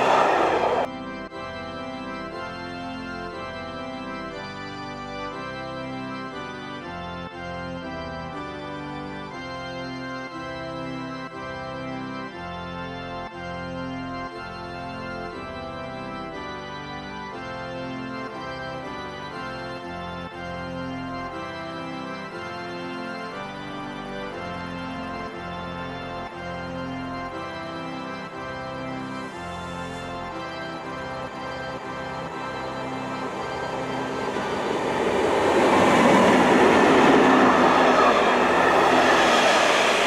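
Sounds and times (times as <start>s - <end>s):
organ playing sustained chords: 0.0s - 40.0s.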